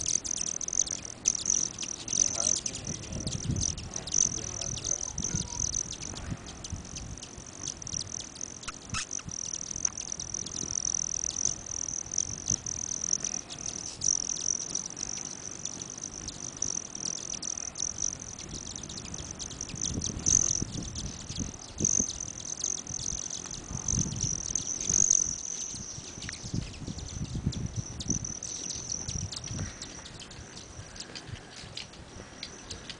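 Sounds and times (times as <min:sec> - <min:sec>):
hummingbird high-pitched trill: 0:00.0 - 0:32.9
hummingbird wings humming: 0:00.0 - 0:32.9
quick chip-like ticks: 0:00.0 - 0:32.9.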